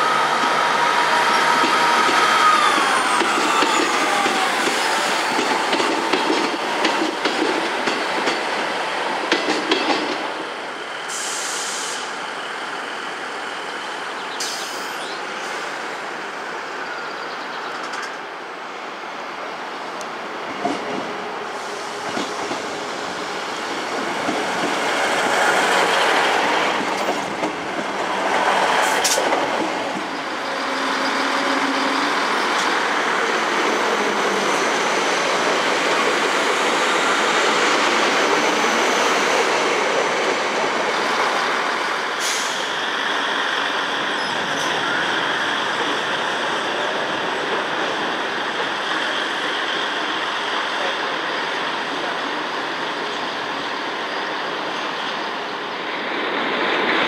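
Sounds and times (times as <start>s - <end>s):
train rumble and rail noise: 0.0s - 57.0s.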